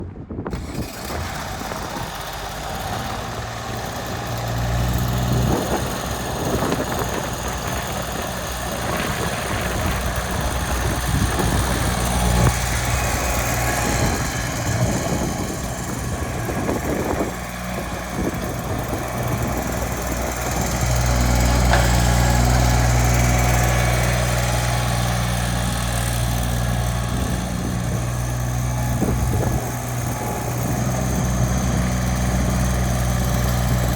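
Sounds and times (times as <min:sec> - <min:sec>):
diesel mower engine humming: 0:00.4 - 0:33.9.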